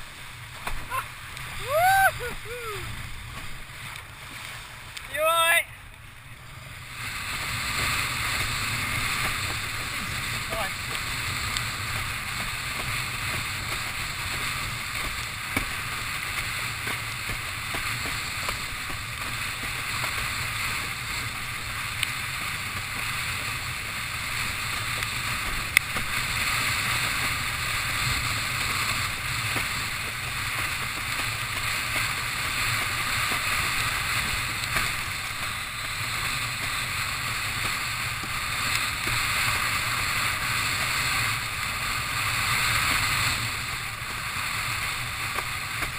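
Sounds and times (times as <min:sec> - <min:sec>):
rush of water and wind: 0:00.0 - 0:45.9.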